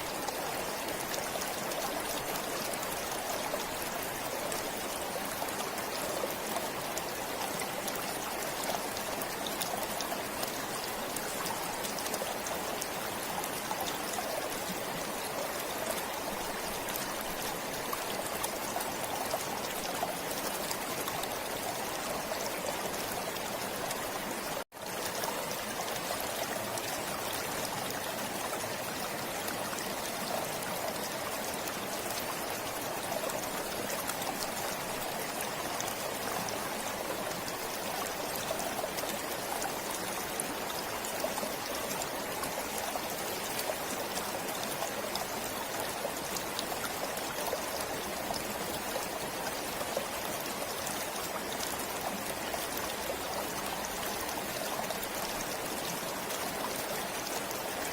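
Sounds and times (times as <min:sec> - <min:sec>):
stream water over rocks: 0:00.0 - 0:57.9.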